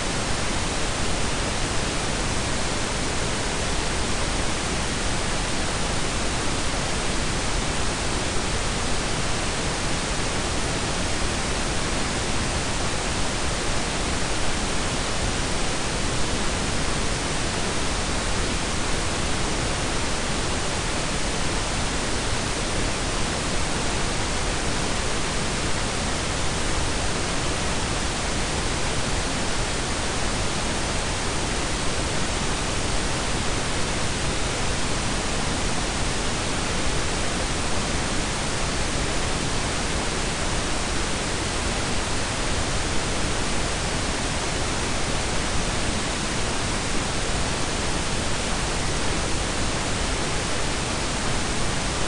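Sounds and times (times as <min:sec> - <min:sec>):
steady hiss with low rumble: 0:00.0 - 0:52.0.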